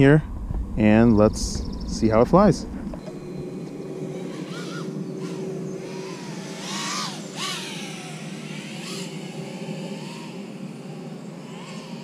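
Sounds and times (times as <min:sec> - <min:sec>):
quadcopter motors whining: 0:00.7 - 0:12.0.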